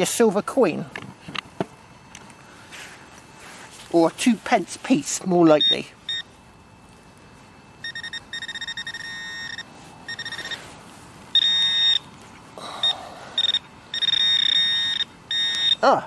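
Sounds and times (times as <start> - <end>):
metal detector beeps and buzzes: 2.7 - 16.0.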